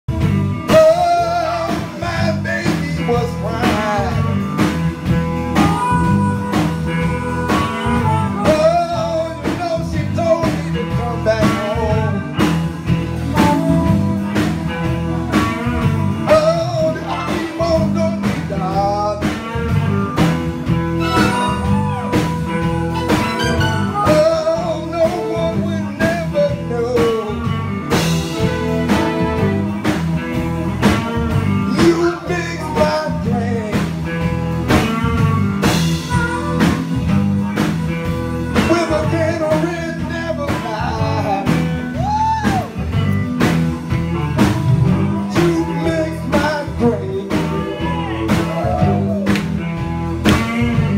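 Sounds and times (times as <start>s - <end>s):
bass: 0.0s - 50.9s
electric guitar lead: 0.1s - 50.9s
steady drum beat: 0.1s - 50.9s.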